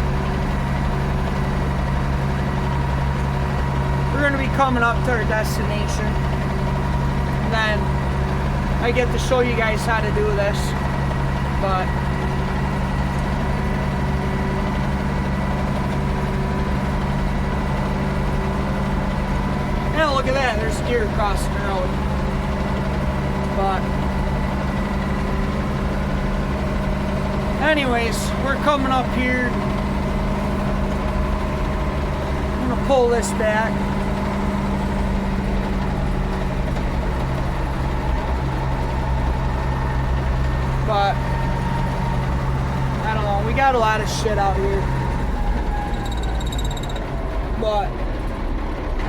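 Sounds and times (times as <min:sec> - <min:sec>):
tractor diesel engine droning: 0:00.0 - 0:49.0.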